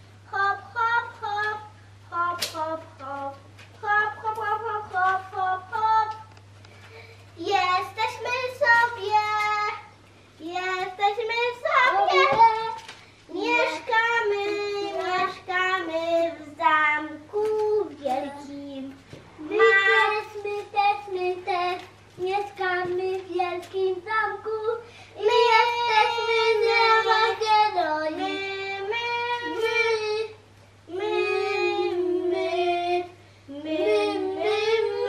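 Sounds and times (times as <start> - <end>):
child singing: 0.3 - 6.3, 7.4 - 35.0.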